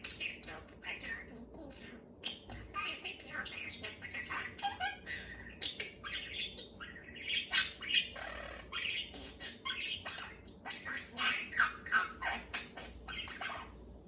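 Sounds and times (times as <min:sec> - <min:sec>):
budgerigar chattering: 0:02.2 - 0:13.7.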